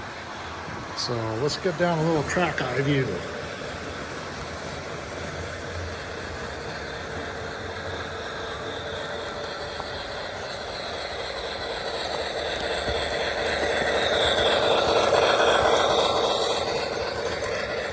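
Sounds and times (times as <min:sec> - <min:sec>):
model train rolling rumble: 0:00.0 - 0:17.9.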